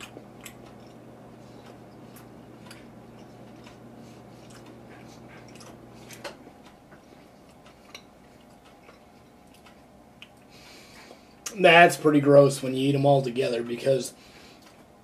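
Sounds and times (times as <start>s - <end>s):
faint chewing: 0.0s - 11.6s, 14.3s - 15.0s
low background hum: 0.0s - 15.0s.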